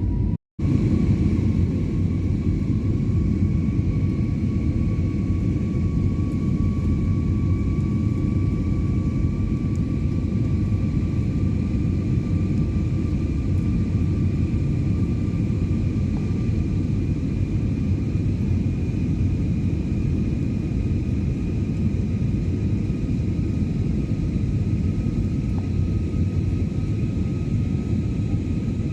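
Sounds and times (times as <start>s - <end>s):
jet engines and airflow rumble: 0.0s - 28.9s.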